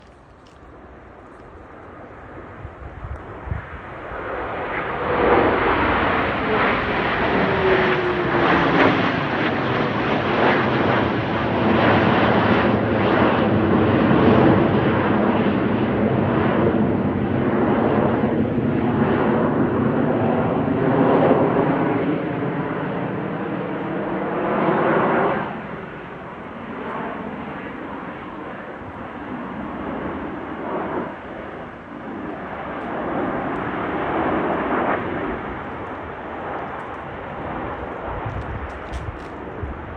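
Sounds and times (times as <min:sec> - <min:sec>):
aircraft flying past: 0:00.0 - 0:39.9.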